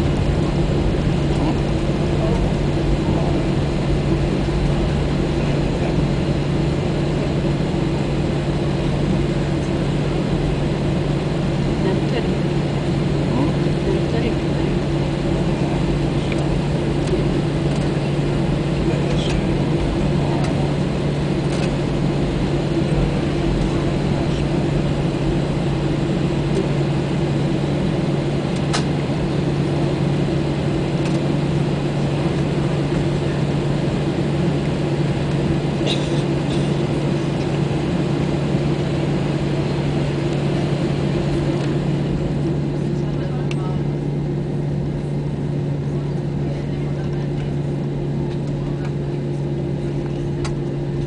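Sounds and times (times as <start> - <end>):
airplane engines droning: 0.0 - 51.0.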